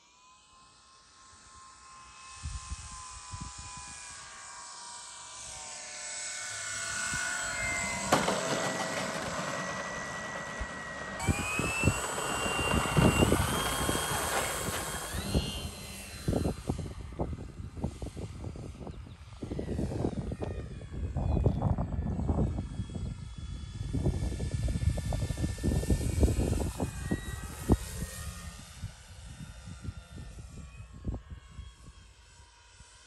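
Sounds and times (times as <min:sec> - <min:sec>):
model plane electric motor whine: 0:00.0 - 0:33.0.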